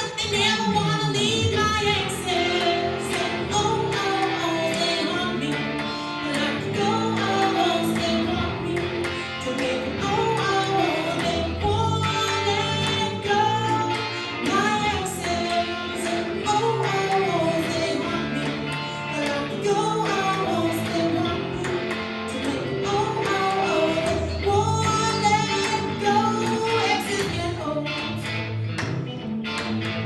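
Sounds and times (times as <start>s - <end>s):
woman singing: 0.0s - 28.3s
strummed guitar: 0.0s - 30.0s.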